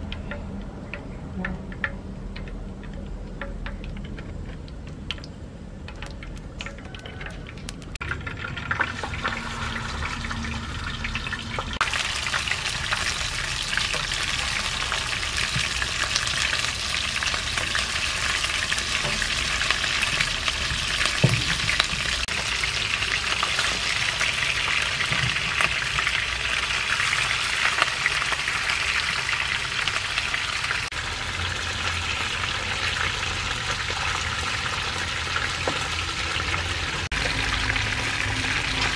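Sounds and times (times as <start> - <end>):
fish frying in oil: 0.0 - 38.9.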